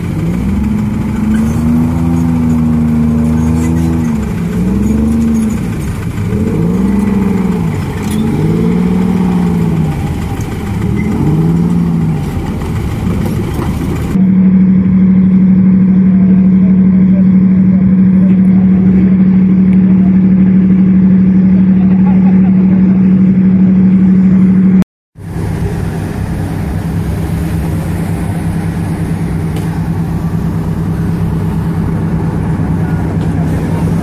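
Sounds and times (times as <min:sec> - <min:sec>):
armoured vehicle diesel engines revving: 0:00.0 - 0:34.0.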